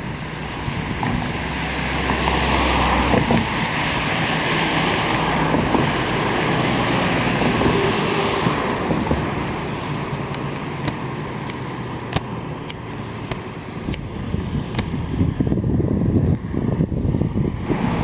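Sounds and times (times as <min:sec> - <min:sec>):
motor vehicle passing close: 0:00.0 - 0:13.5, 0:14.3 - 0:18.0.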